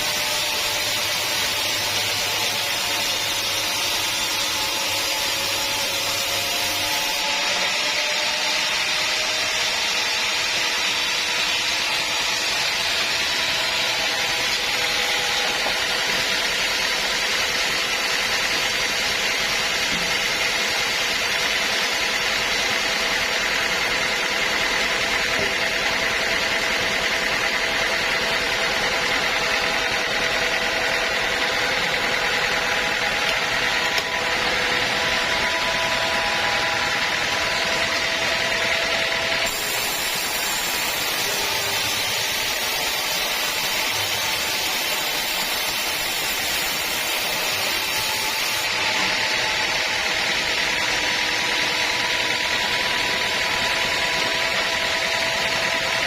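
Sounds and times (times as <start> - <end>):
sawmill saw cutting a log: 0.0 - 56.0.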